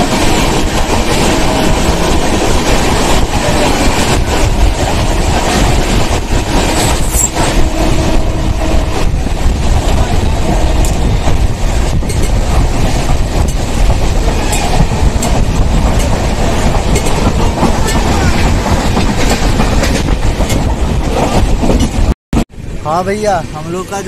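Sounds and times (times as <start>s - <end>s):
rail joint clicks and clatter: 0.0s - 22.1s
train wheels rumbling on track: 0.0s - 24.0s.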